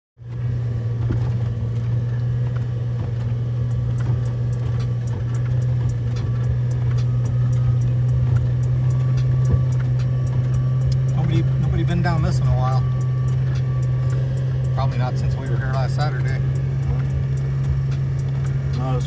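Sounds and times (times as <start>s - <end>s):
car drivetrain droning inside cab: 0.2s - 19.0s.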